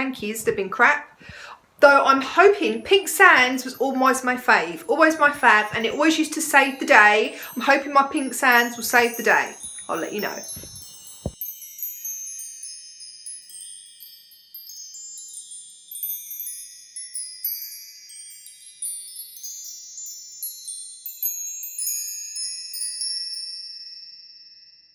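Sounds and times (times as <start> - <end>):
tinkling chimes: 3.2 - 24.9.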